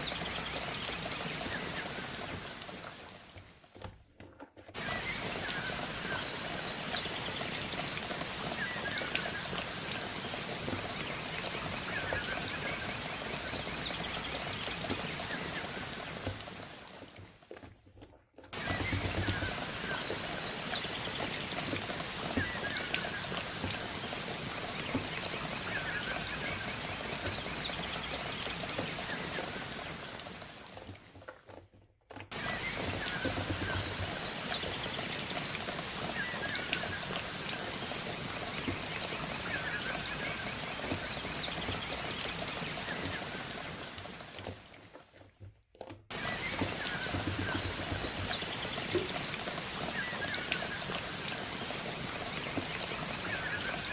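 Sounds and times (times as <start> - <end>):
light water patters: 0.0 - 53.9.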